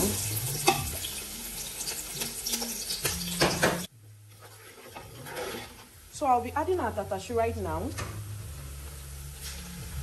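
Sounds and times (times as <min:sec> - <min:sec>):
onions sizzling in hot oil: 0:00.0 - 0:03.9, 0:05.3 - 0:10.0.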